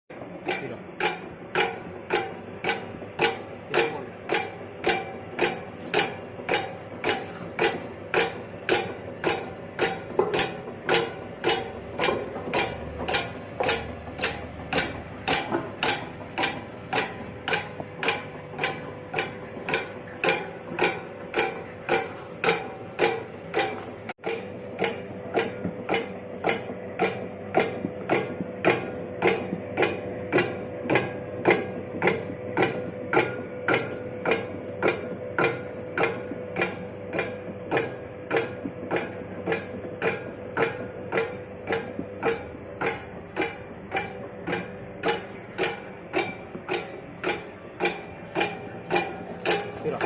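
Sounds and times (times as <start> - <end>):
motor hum: 0.1 - 50.0
machine mechanism clacking: 0.4 - 50.0.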